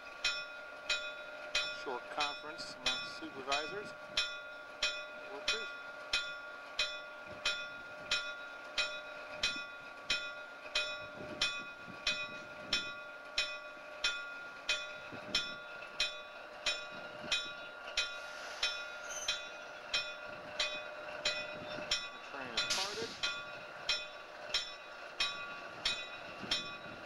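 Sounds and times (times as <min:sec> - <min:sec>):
faint low train rumble: 0:00.0 - 0:27.0
locomotive bell ringing: 0:00.0 - 0:27.0.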